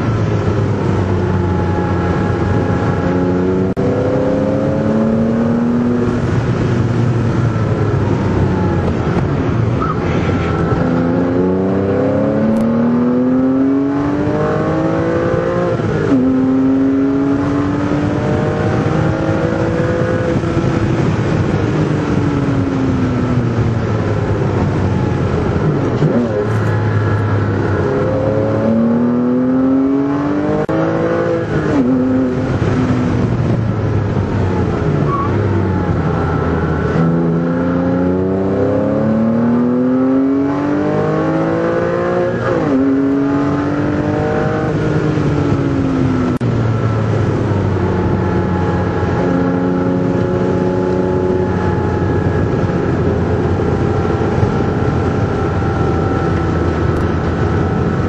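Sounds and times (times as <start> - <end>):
car engine revving through upshifts: 0.0 - 58.0
tyre and road noise: 0.0 - 58.0.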